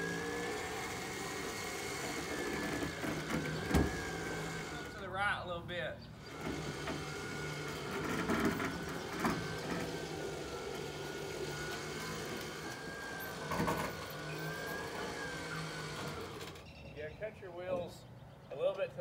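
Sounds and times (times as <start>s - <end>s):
electric winch motor whining: 0.0s - 5.3s, 6.2s - 16.8s.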